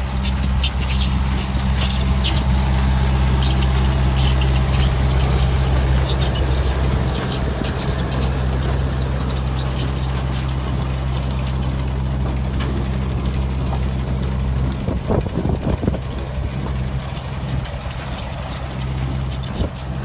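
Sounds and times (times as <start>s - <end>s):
machine engine humming: 0.0s - 20.0s.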